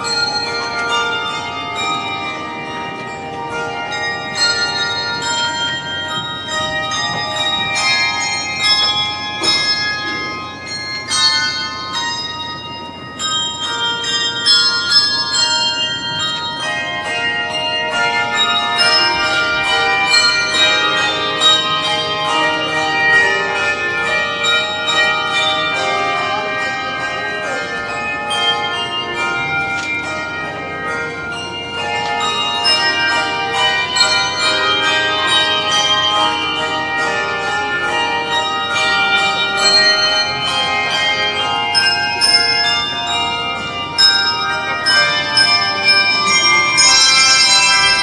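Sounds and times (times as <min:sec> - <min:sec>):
handbell choir playing chords: 0:00.0 - 0:48.0.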